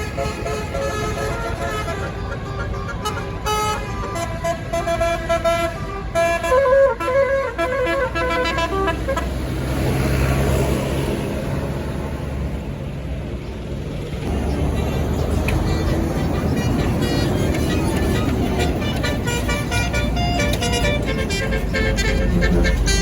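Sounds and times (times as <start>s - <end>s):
bus horn playing a melody: 0.0s - 10.4s, 14.7s - 23.0s
bus engine: 0.0s - 23.0s
road noise: 0.0s - 23.0s.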